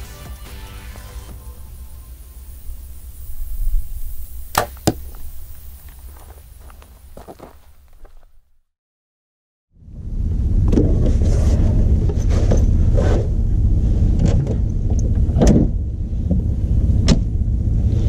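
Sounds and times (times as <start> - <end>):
wind rumbling on microphone: 1.8 - 8.2, 9.9 - 18.0.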